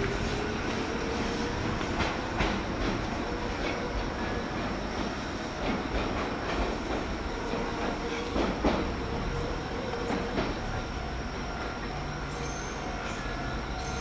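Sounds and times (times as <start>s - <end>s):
train wheels clacking over rail joints: 0.0s - 11.8s.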